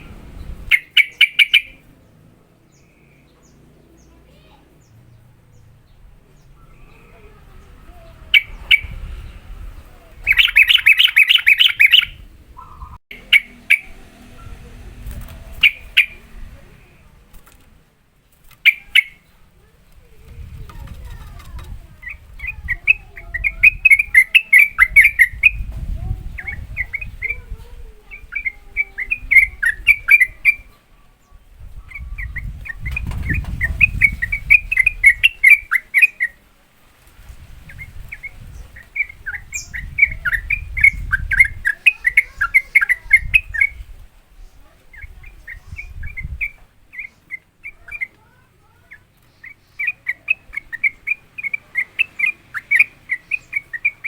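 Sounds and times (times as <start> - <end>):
bulbul singing: 0.0 - 54.0.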